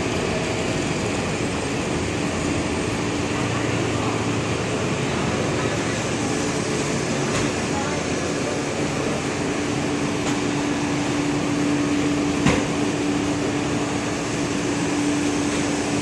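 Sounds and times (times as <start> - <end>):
laundry machinery whirring hum: 0.0 - 16.0.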